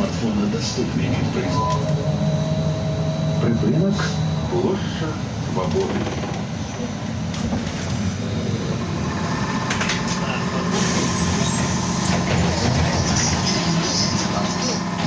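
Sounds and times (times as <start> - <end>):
trolleybus equipment hum: 0.0 - 15.0.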